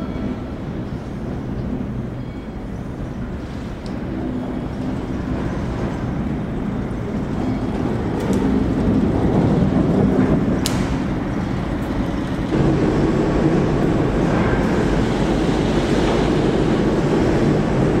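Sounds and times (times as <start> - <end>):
locomotive wheels rumbling on rails: 0.0 - 18.0.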